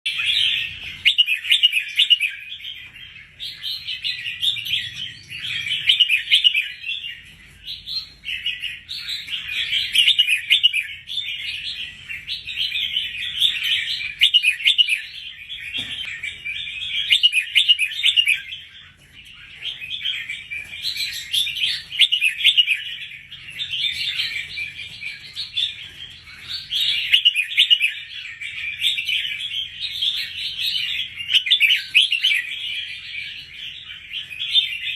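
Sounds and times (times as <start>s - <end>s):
bird singing chirpy phrases: 0.1s - 34.9s.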